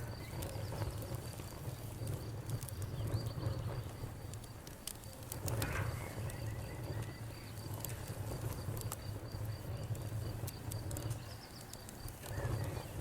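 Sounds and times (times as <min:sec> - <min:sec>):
cricket chirping: 0:00.0 - 0:13.0
wood fire crackling: 0:00.0 - 0:13.0.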